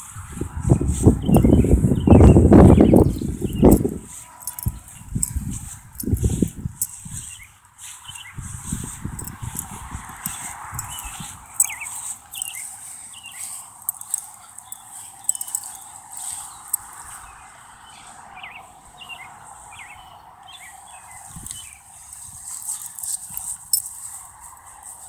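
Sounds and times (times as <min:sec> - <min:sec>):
small birds chirping: 0:00.0 - 0:25.0
steady background noise: 0:00.0 - 0:25.0.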